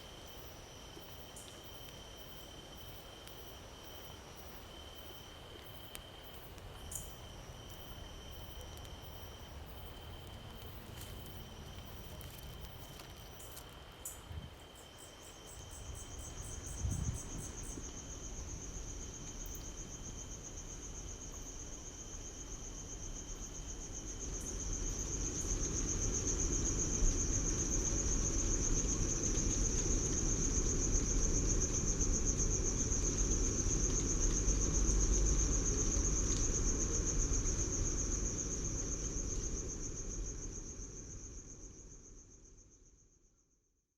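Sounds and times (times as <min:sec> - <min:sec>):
insects trilling: 0:00.0 - 0:42.5.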